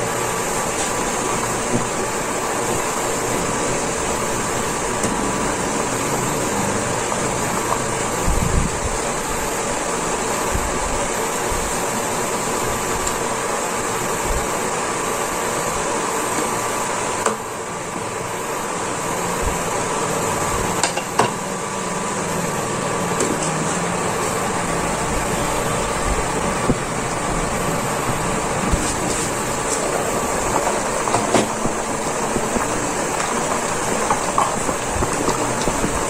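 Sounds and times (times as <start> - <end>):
soup boiling and bubbling: 0.0 - 36.0.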